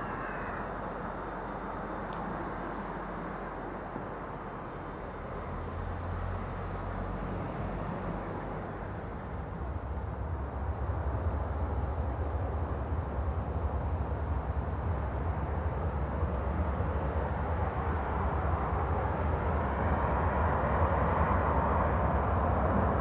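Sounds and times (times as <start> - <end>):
diesel locomotives rumbling: 0.0 - 23.0.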